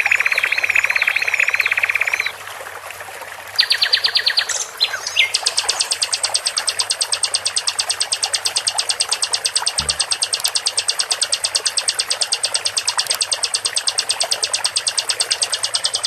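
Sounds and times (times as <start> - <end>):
songbird trills: 0.0 - 2.3, 3.6 - 16.0.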